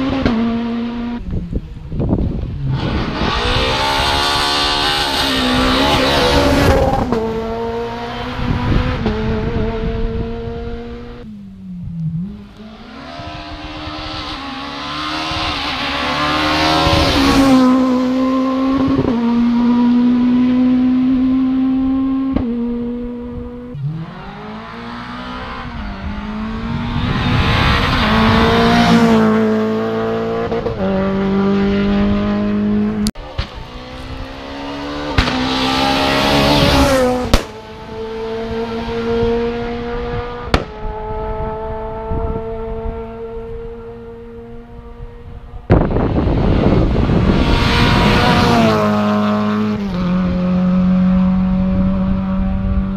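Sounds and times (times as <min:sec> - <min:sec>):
rally cars accelerating: 0:00.0 - 0:52.9.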